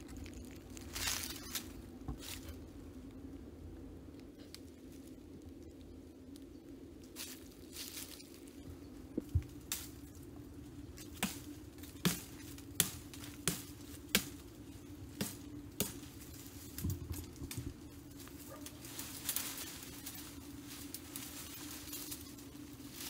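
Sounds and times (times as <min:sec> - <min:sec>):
leaves and branches rustling: 0:00.0 - 0:23.0.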